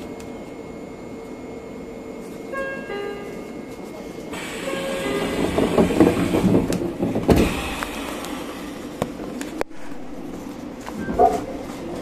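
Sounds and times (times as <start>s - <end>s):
train engine running: 1.1s - 10.8s.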